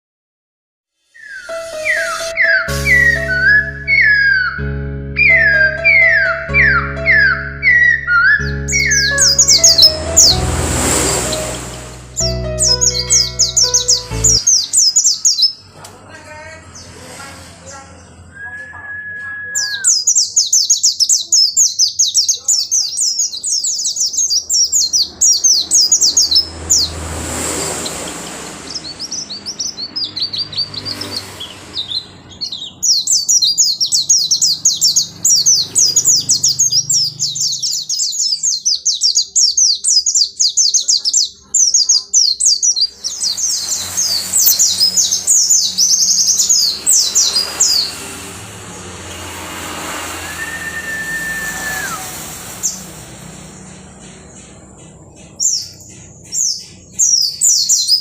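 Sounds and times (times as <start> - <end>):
bird twittering song: 1.1 - 4.6, 5.2 - 10.4, 12.2 - 15.7, 18.3 - 27.0, 27.8 - 48.2, 50.3 - 58.0.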